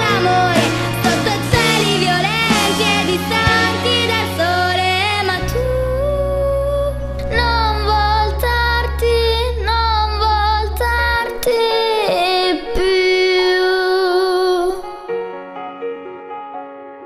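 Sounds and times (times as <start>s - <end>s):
girl singing pop ballad: 0.0s - 15.2s
backing track: 0.0s - 16.5s.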